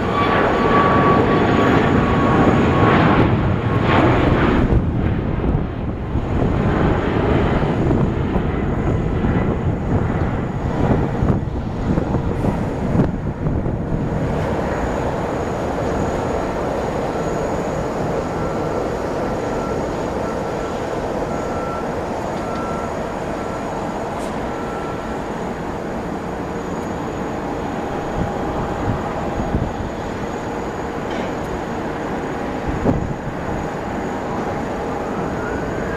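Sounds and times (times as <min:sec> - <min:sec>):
jet engines rumbling at takeoff: 0:00.0 - 0:35.9.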